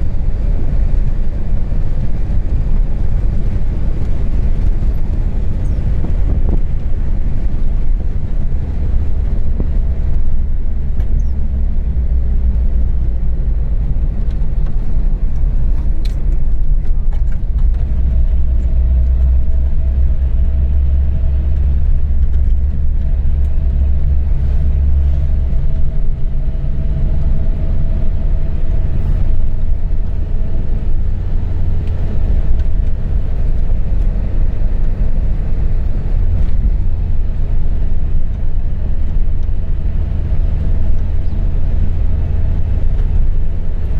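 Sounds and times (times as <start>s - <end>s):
loud low rumble: 0.0s - 43.9s.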